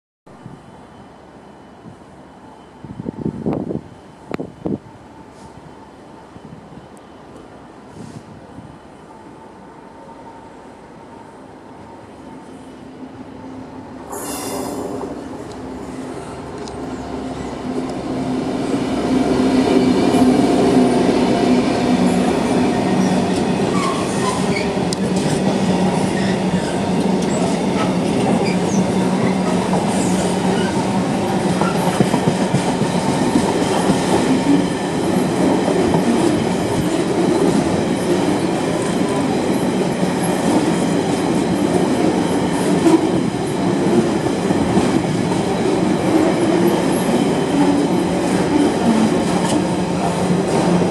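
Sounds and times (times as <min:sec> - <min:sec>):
diesel locomotive engine hum: 0:00.4 - 0:50.9.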